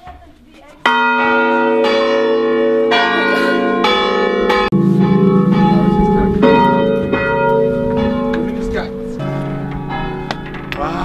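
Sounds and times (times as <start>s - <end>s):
church bells ringing: 0.8s - 11.0s.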